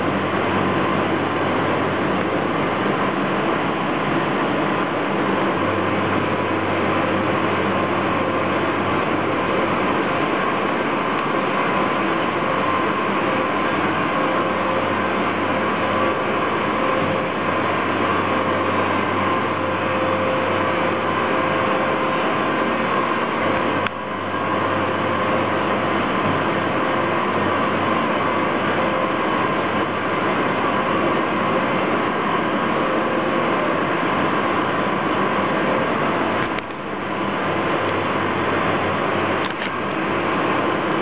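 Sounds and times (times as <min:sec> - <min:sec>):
industrial machinery humming: 0:00.0 - 0:41.0
machinery whine: 0:00.0 - 0:41.0.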